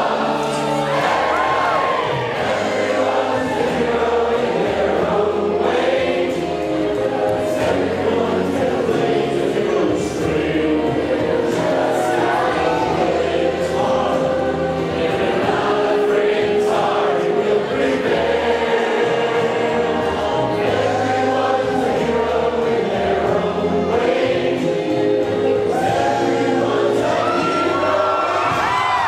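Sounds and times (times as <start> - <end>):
musical accompaniment: 0.0 - 29.0
voices singing in harmony: 0.0 - 29.0.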